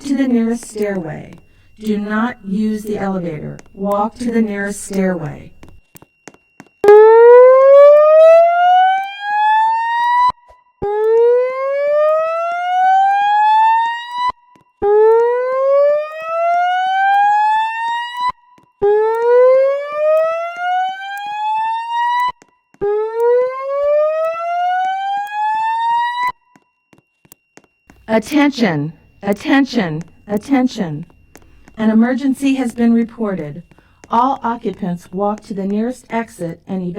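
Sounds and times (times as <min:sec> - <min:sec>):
fire alarm whoop tone: 0:00.0 - 0:05.9, 0:06.6 - 0:36.9.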